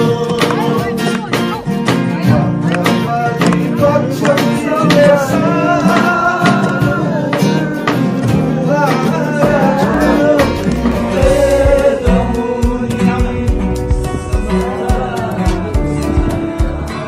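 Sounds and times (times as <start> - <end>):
acoustic guitar strumming: 0.0 - 17.0
people singing along: 2.2 - 17.0.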